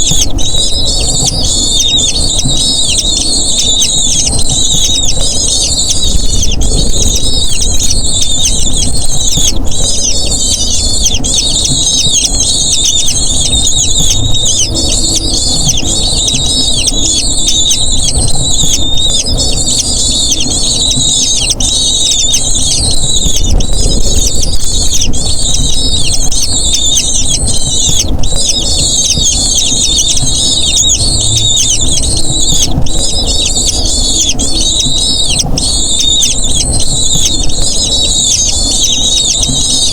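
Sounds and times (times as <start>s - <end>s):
eagle chicks squealing: 0.0s - 39.9s.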